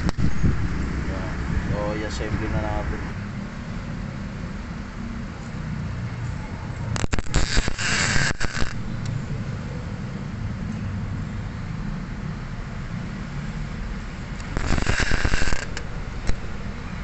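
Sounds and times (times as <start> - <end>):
steady low rumble: 0.0 - 5.3, 6.9 - 17.0.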